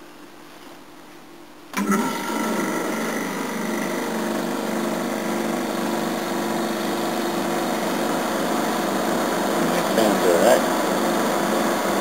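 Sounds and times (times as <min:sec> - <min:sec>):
heat pump whirring: 0:01.7 - 0:12.0.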